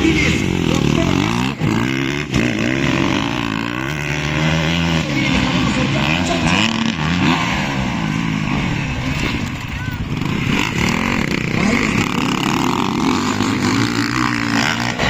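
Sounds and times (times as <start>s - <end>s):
motocross engines revving: 0.0s - 15.0s.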